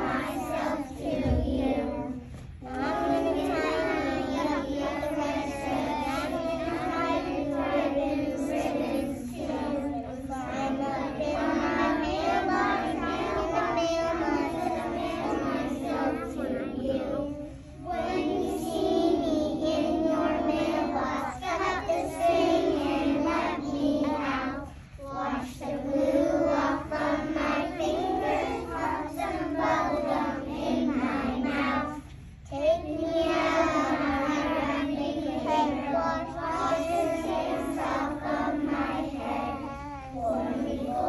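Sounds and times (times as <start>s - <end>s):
children singing in unison: 0.0s - 41.0s.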